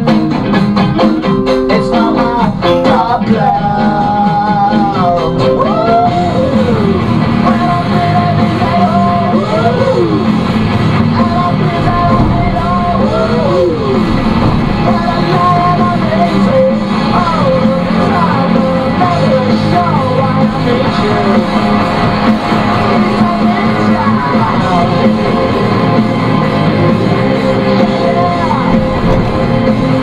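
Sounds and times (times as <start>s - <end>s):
rock song on car radio: 0.0s - 30.0s.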